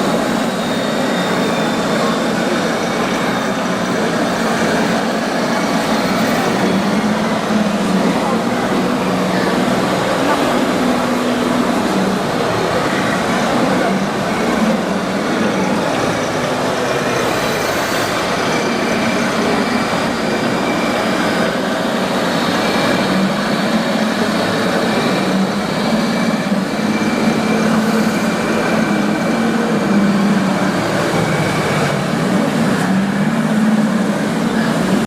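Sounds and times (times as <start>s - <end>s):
crowd noise: 0.0s - 35.0s
model machines humming: 0.0s - 35.0s.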